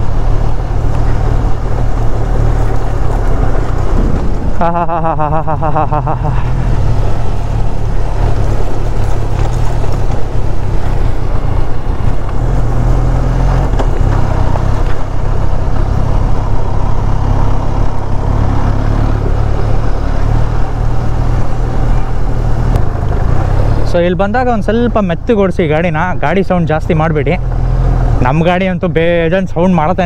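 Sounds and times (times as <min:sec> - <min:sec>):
motorcycle engine running: 0:00.0 - 0:29.2.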